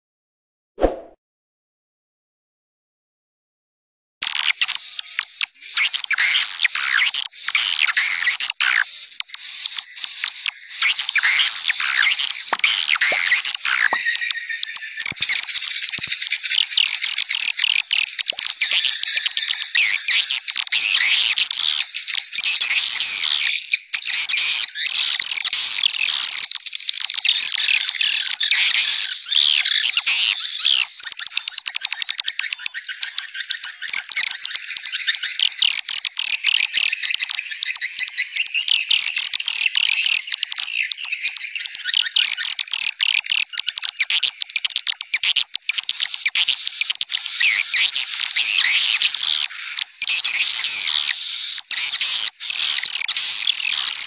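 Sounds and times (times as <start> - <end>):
chorus of twittering bird chirps: 4.3 - 54.0.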